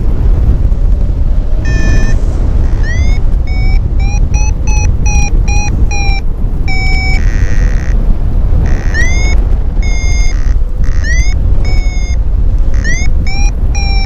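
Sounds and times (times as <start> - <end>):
wind rush on microphone: 0.0 - 14.0
variometer beeping: 1.5 - 14.0.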